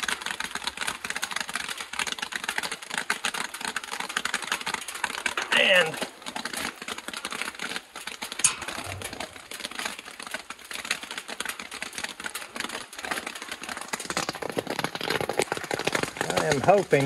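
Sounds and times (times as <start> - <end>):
raindrops tapping on an umbrella: 0.0 - 17.0.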